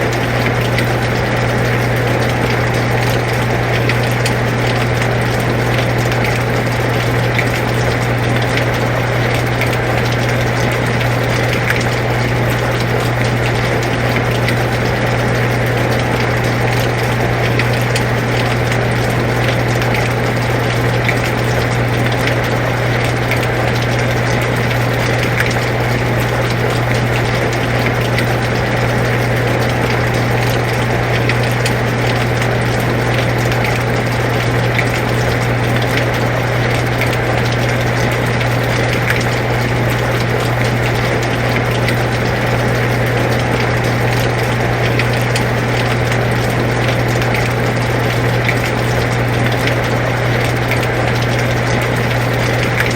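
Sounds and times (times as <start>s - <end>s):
air conditioner humming: 0.0s - 52.9s
rain falling: 0.0s - 52.9s.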